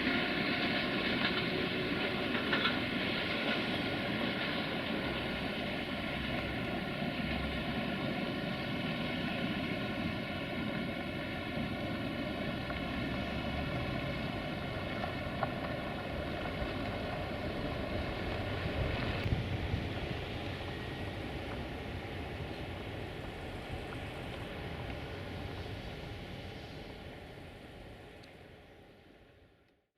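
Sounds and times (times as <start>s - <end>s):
rail rumble: 0.0s - 29.7s
train drive drone: 0.0s - 29.9s.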